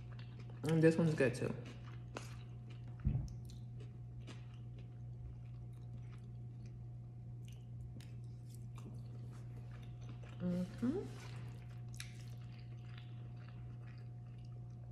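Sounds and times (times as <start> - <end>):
chewing with wet mouth clicks: 0.0 - 10.4, 11.2 - 14.9
low electrical hum: 0.0 - 14.9.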